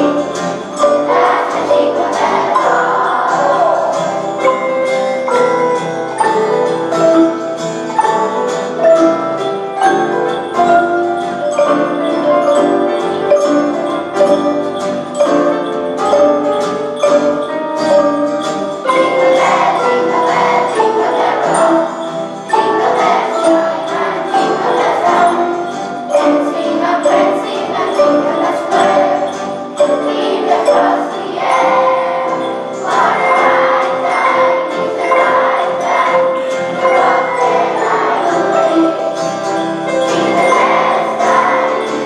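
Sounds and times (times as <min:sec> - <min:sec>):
children's choir singing: 0:00.0 - 0:42.0
xylophones and metallophones: 0:00.0 - 0:42.0.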